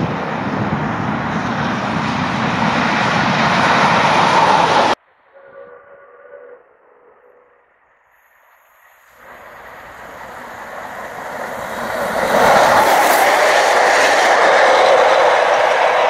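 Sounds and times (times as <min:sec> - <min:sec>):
steam train running: 0:00.0 - 0:06.6, 0:08.2 - 0:16.0.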